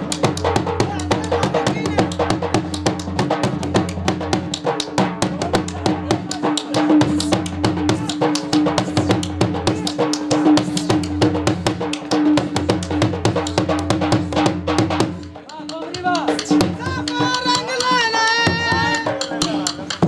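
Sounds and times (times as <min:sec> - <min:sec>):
dhol drum beating fast rhythm: 0:00.0 - 0:20.0.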